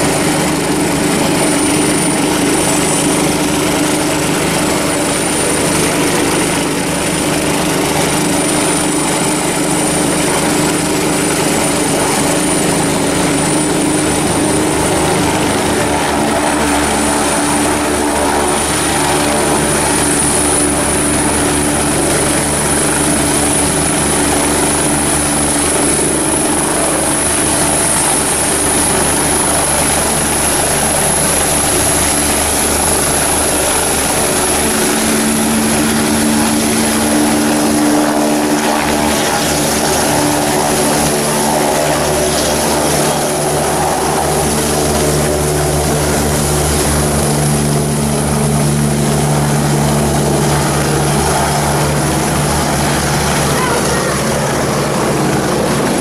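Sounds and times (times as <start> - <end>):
helicopter rotor and engine: 0.0 - 56.0
high turbine whine: 0.0 - 56.0.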